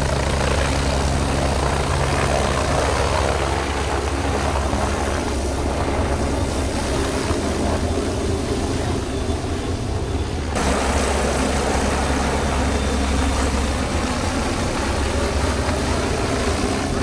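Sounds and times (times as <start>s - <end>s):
helicopter flying low: 0.0s - 17.0s.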